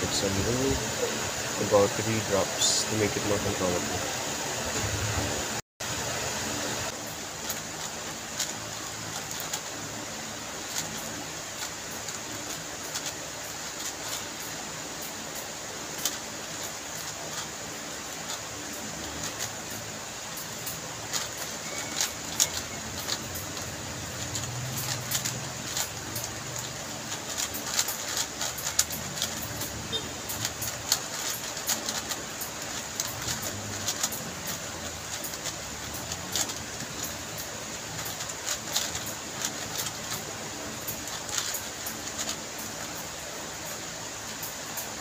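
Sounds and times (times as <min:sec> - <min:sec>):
speed cube turning clatter: 0:00.0 - 0:45.0.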